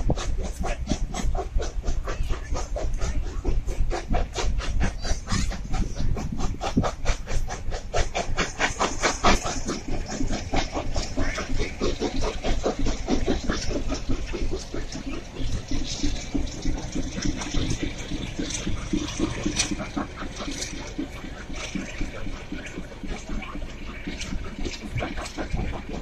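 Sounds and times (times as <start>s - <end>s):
steam locomotive chuffing: 0.0s - 26.0s.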